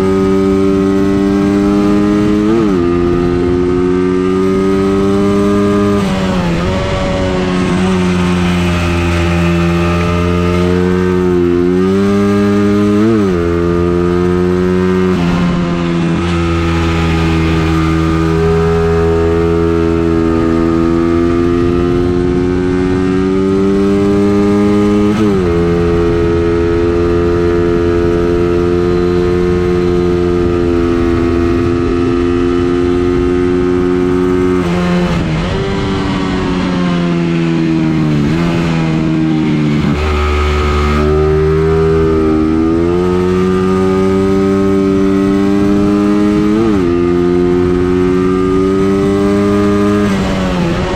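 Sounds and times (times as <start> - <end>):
vehicle engine revving: 0.0 - 50.9.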